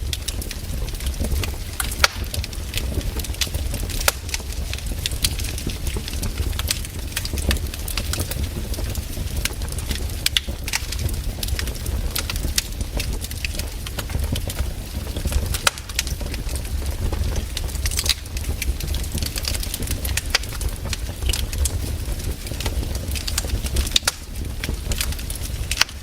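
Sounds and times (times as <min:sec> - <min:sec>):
low steady rumble: 0:00.0 - 0:26.0
wood fire crackling and popping: 0:00.0 - 0:26.0.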